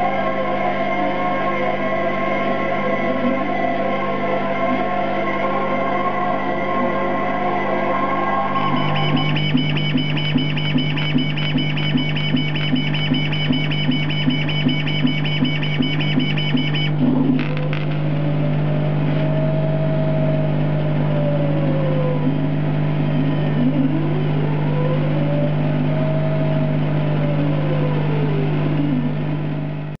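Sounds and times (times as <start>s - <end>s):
laser cutter humming: 0.0s - 27.2s
motor whine: 0.0s - 29.9s.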